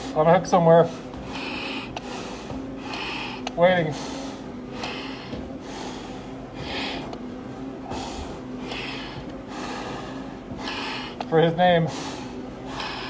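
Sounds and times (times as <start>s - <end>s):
heavy breathing in face mask: 0.8s - 13.0s.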